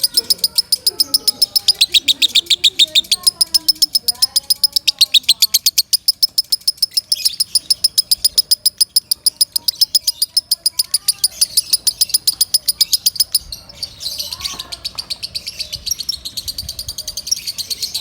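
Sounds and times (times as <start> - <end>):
lovebird chirping: 0.0 - 18.0.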